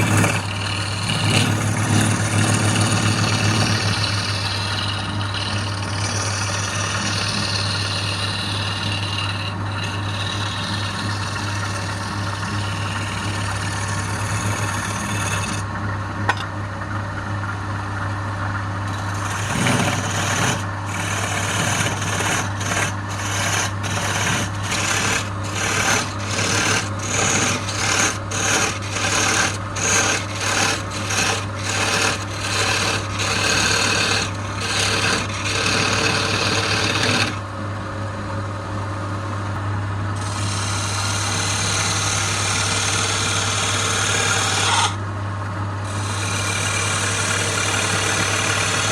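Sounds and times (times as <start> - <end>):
turning tool cutting wood: 0.0 - 15.7, 18.9 - 37.5, 40.2 - 45.0, 45.8 - 48.9
lathe motor humming: 0.0 - 39.6, 40.2 - 45.0, 45.8 - 48.9.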